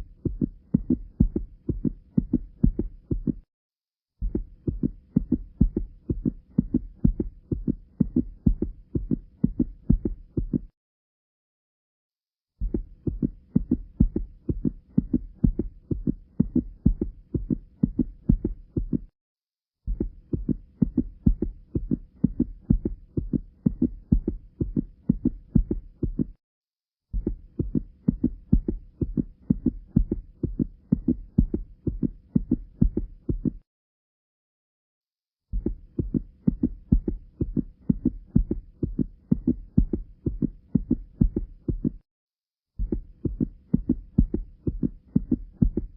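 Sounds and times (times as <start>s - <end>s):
low heart murmur: 0.0s - 3.5s, 4.2s - 10.7s, 12.6s - 19.1s, 19.9s - 26.4s, 27.1s - 33.6s, 35.5s - 42.0s, 42.8s - 45.9s
rapid regular heartbeat: 0.0s - 3.5s, 4.2s - 10.8s, 12.6s - 19.2s, 19.8s - 26.4s, 27.1s - 33.7s, 35.5s - 42.1s, 42.8s - 45.9s.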